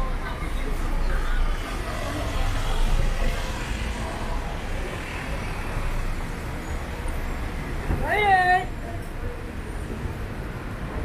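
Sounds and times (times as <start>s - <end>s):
faint voices of passers-by: 0.0s - 11.0s
low motor vehicle rumble: 0.0s - 11.0s.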